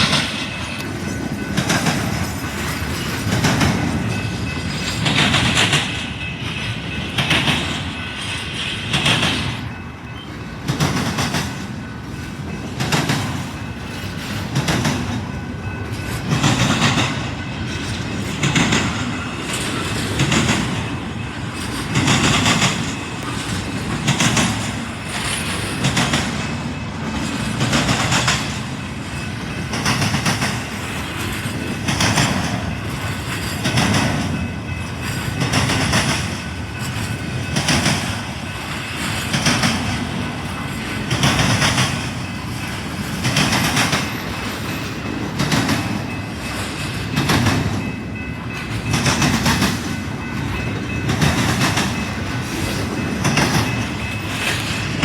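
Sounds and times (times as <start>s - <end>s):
train wheels clattering: 0.0s - 55.0s.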